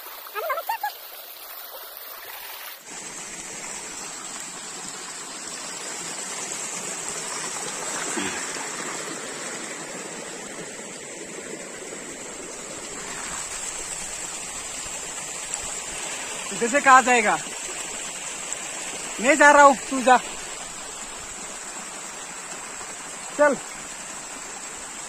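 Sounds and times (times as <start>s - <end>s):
stream splashing over rocks: 0.0s - 25.0s.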